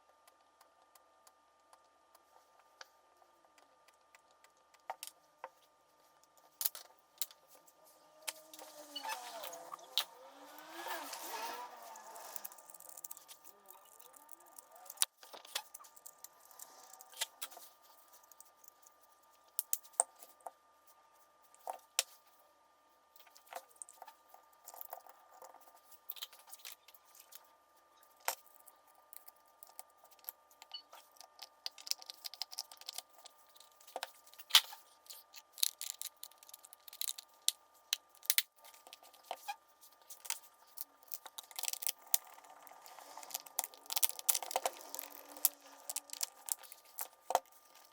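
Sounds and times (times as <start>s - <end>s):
faint electrical hum: 0.0s - 47.9s.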